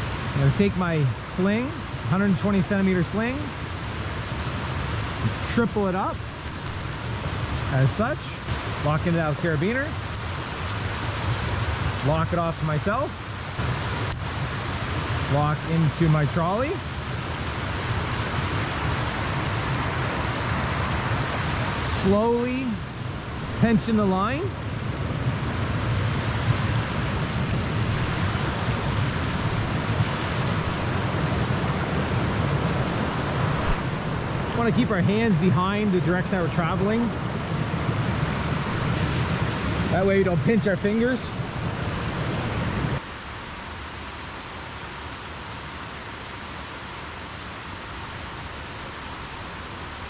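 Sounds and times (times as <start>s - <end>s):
river rapids rushing: 0.0s - 50.0s.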